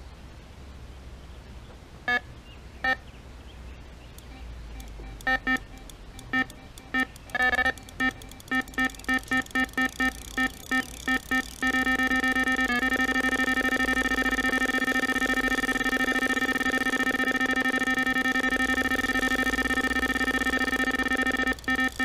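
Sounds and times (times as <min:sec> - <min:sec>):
electronic bite alarm beeps: 0:04.2 - 0:22.0.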